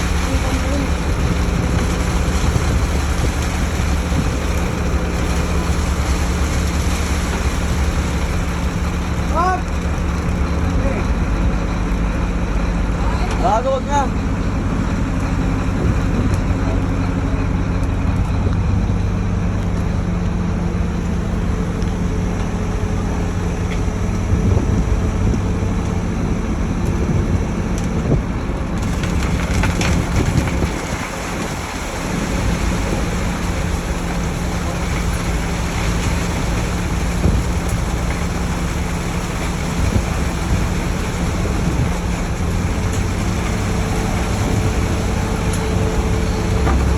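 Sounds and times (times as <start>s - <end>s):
machinery engine running: 0.0s - 46.9s.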